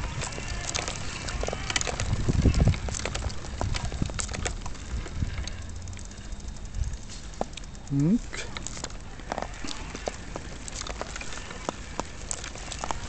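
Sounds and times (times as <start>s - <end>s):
wheelchair clicks and clatter: 0.0s - 13.0s
wheelchair rolling over brick paving: 0.0s - 13.0s.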